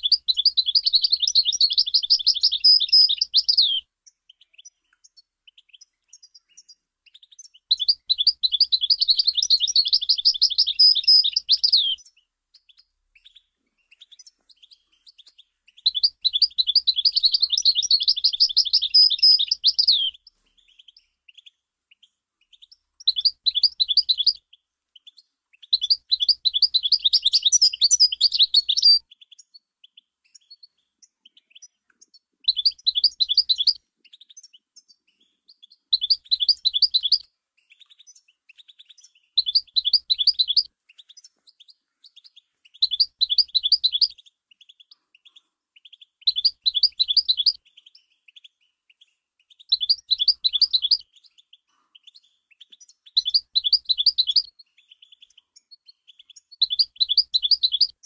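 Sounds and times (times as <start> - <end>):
goldfinch twittering: 0.0 - 21.4, 22.6 - 24.4, 25.1 - 29.5, 32.4 - 34.6, 35.6 - 48.4, 49.5 - 58.0.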